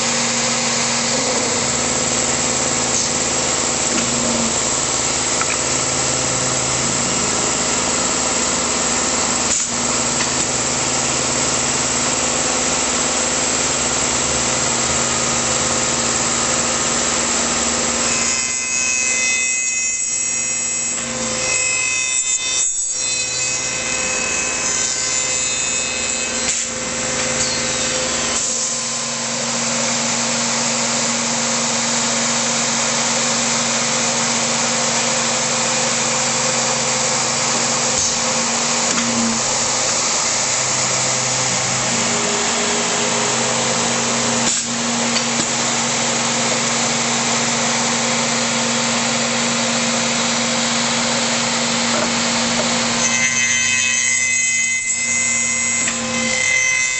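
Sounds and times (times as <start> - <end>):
woodworking machine cutting wood: 0.0 - 56.9.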